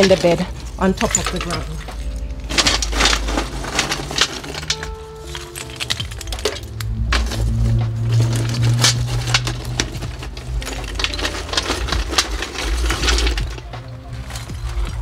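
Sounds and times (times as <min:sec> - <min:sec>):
background music with bass: 0:00.0 - 0:15.0
charcoal clinking in metal bucket: 0:00.0 - 0:15.0.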